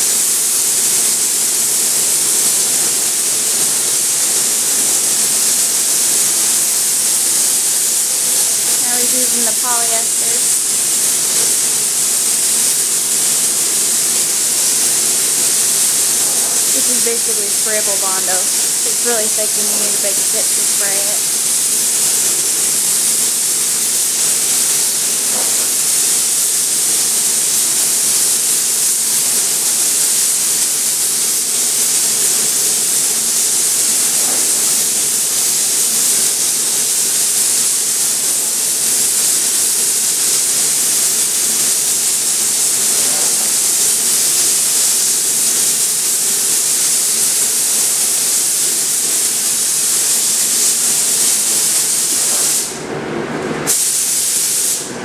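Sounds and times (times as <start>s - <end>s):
spray gun hissing: 0.0s - 55.0s.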